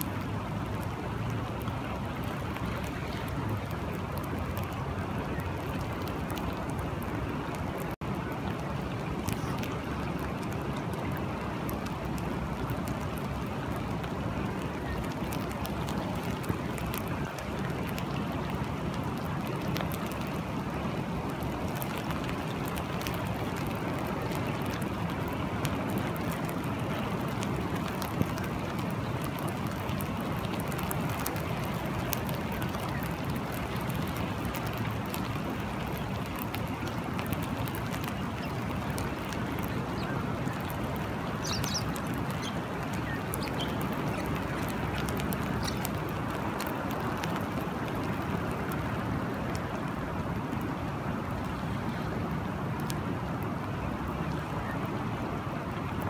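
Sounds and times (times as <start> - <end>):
rain falling on water and sand: 0.0 - 56.0.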